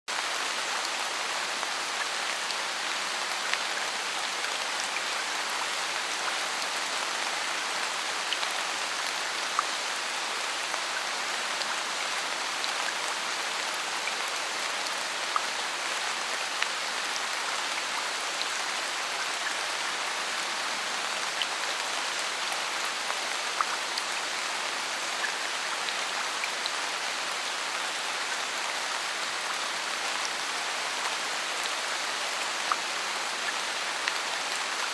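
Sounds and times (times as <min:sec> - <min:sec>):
rain on foliage: 0:00.1 - 0:34.9.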